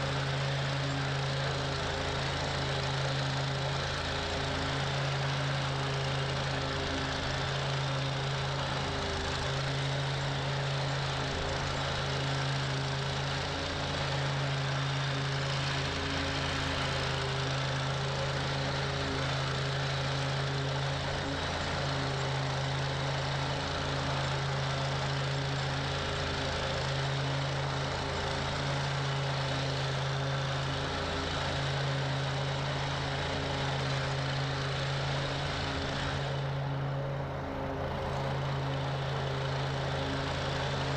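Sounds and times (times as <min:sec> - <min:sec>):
lawn mower engine droning: 0:00.0 - 0:40.9.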